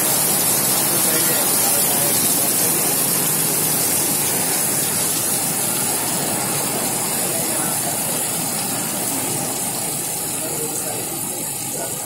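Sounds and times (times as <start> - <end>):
heavy rain on street and roof: 0.0 - 12.0.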